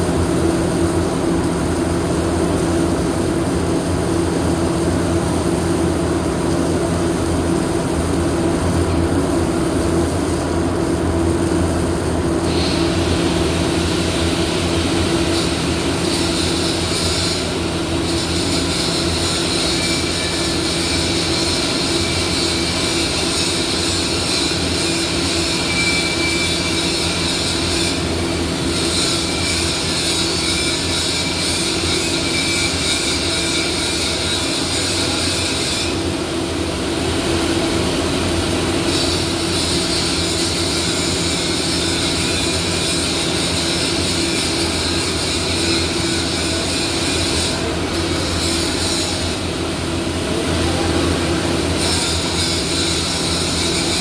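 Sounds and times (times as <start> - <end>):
hum of machines and fans: 0.0 - 54.0
welding arc crackling hiss: 0.1 - 54.0.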